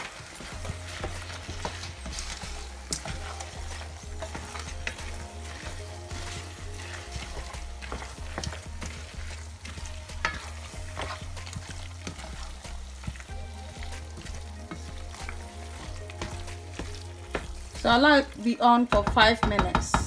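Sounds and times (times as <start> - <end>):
wooden spatula scraping a pan: 0.0 - 18.6
stew sizzling: 0.0 - 20.0.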